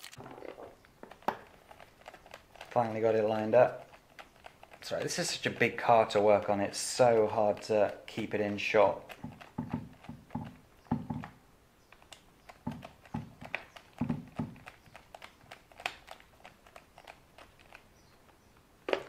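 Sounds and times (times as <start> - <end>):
plastic parts clicking and knocking: 0.0 - 19.0.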